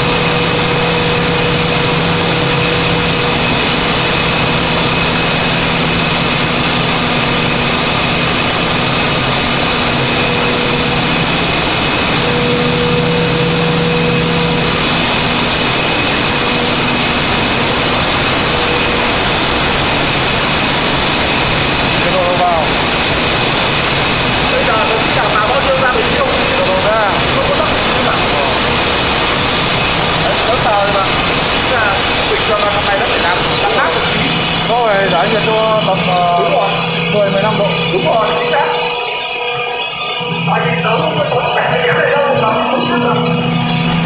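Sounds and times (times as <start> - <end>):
compressed-air machinery running: 0.0 - 44.0.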